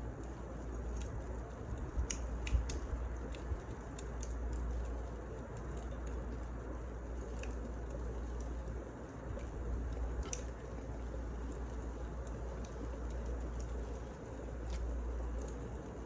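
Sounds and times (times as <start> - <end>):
fire hissing and rumbling: 0.0 - 16.0
firewood crackling and popping: 0.0 - 16.0.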